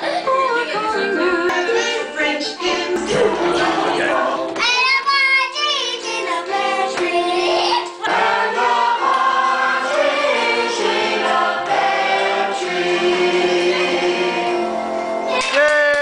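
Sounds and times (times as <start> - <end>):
choir singing: 0.5 - 4.6, 5.8 - 15.2.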